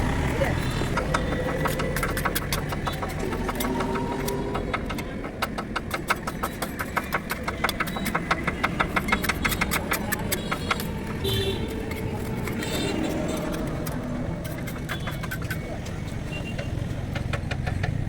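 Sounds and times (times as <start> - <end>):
low engine rumble: 0.0 - 18.0
rapid sharp clicks: 0.6 - 16.0.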